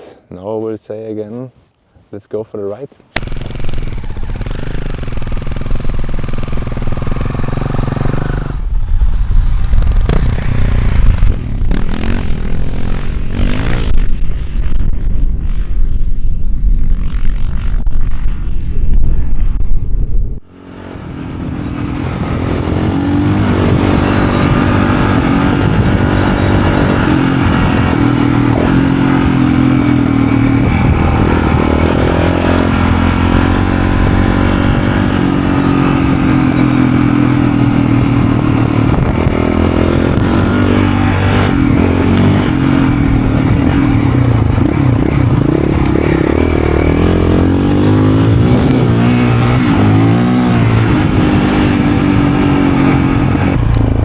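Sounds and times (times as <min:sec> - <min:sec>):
road and wind noise: 0:00.0 - 0:54.0
motorcycle engine running: 0:03.2 - 0:18.3, 0:19.1 - 0:54.0.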